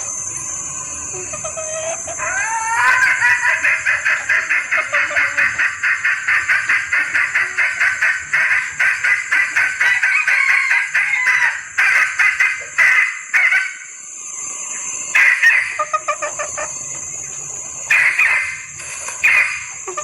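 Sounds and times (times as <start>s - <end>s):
hen clucking calls: 1.1s - 14.0s, 15.1s - 20.0s.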